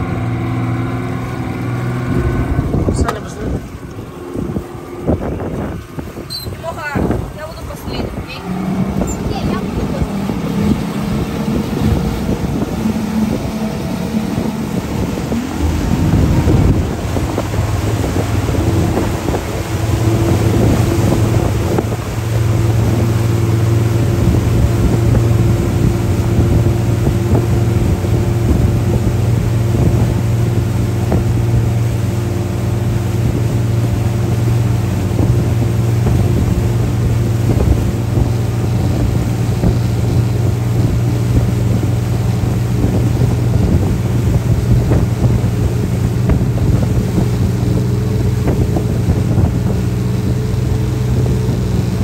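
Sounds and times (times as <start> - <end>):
churning water: 0.0 - 52.0
motorboat engine drone: 0.0 - 52.0
wind buffeting microphone: 0.0 - 52.0.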